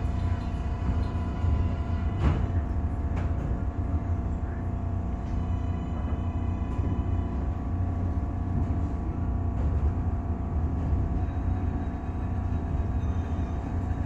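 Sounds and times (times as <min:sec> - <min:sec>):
subway car rumble: 0:00.0 - 0:14.0.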